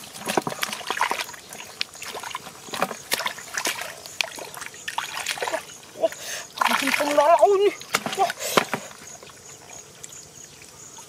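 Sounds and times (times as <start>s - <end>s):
hands splashing in water: 0.0s - 9.0s.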